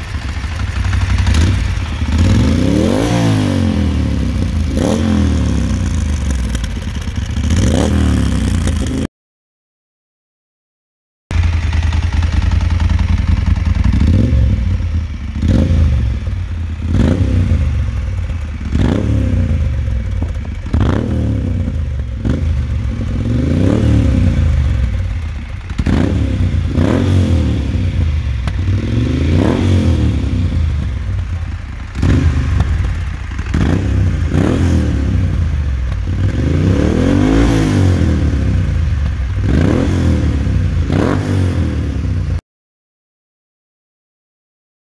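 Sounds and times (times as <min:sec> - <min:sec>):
motorcycle engine revving: 0:00.0 - 0:09.1, 0:11.3 - 0:42.4.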